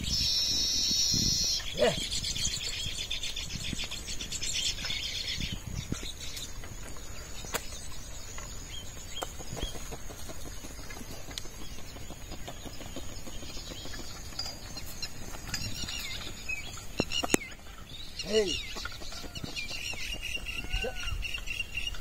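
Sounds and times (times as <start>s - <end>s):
bird chirps: 0.0s - 22.0s
birds chattering trill: 0.0s - 22.0s.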